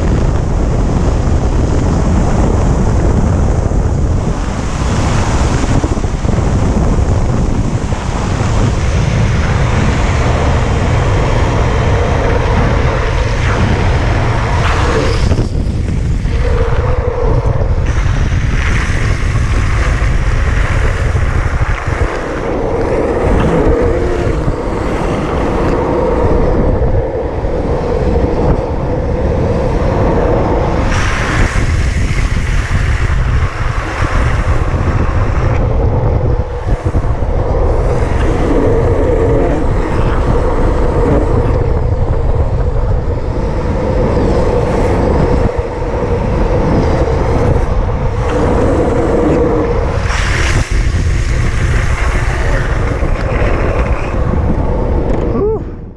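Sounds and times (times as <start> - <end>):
longboard wheels rolling on asphalt: 0.0 - 55.9
wind noise on microphone: 0.0 - 55.9.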